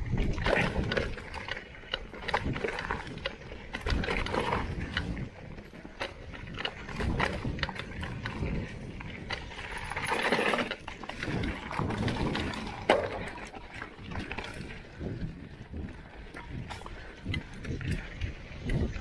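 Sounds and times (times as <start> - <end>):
mountain bike rattling: 0.0 - 19.0
tyres on gravel: 0.0 - 19.0.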